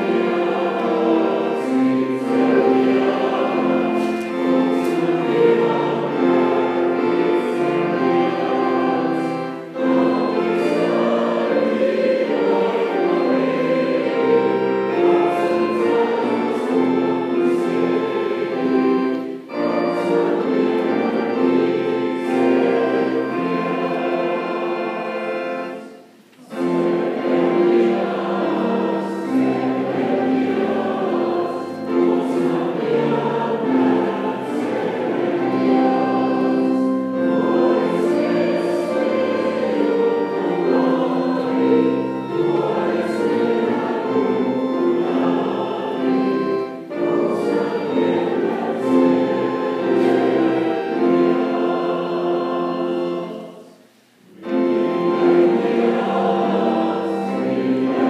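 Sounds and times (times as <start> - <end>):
choir singing held chords: 0.0 - 58.0.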